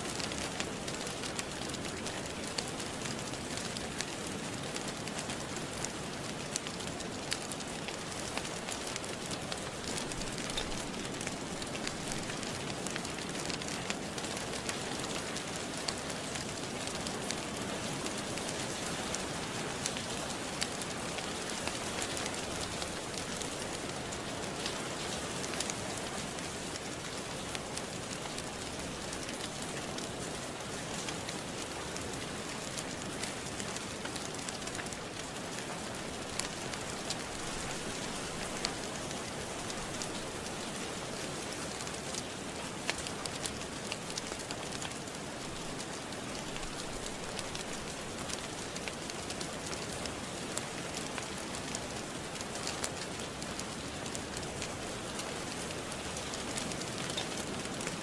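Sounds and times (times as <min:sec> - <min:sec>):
steady rain falling: 0:00.0 - 0:58.0
wood fire crackling: 0:00.0 - 0:58.0.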